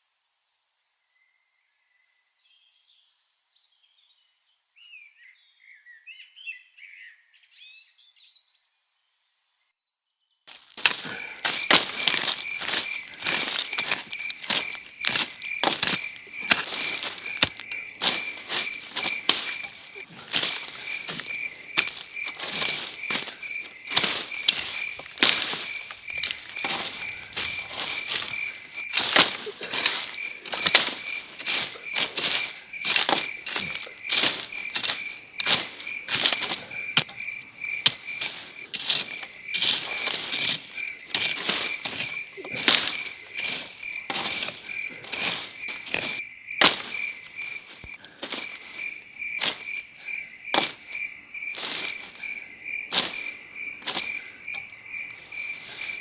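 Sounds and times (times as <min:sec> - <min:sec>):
insect chirping: 0:10.5 - 0:56.0.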